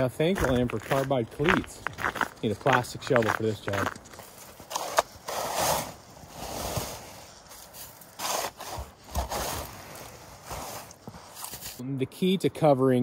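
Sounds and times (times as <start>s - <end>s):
scraping wet snow and ice: 0.0s - 11.8s.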